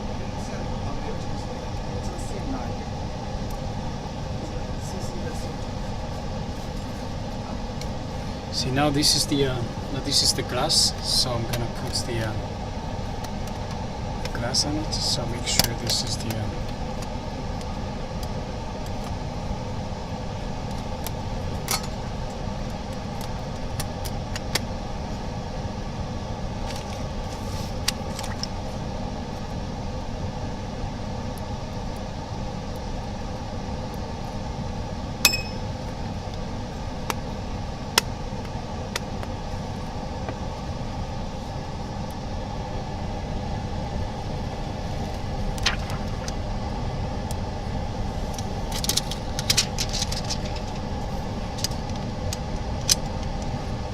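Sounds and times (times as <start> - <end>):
mechanical hum of equipment: 0.0 - 53.9.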